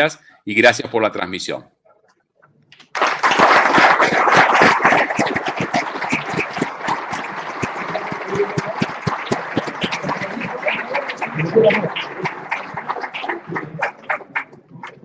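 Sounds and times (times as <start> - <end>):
audience applauding: 2.8 - 15.0.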